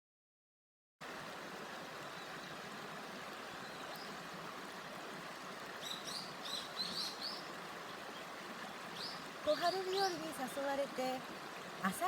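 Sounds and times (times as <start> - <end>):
river water babbling: 1.0 - 12.0.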